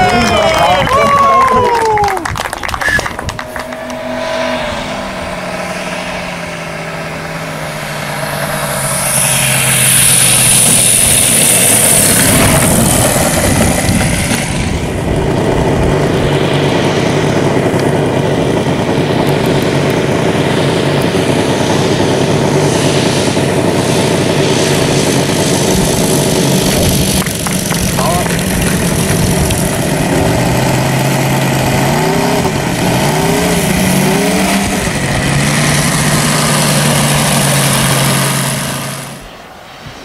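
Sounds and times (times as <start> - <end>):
model aircraft engine throttling down: 0.0 - 40.0
model aircraft engine running steadily: 2.2 - 40.0.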